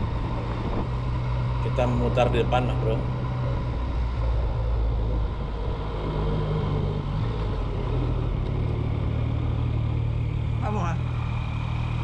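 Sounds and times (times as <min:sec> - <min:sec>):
motorcycle engine running: 0:00.0 - 0:12.0
road noise rushing: 0:00.0 - 0:12.0.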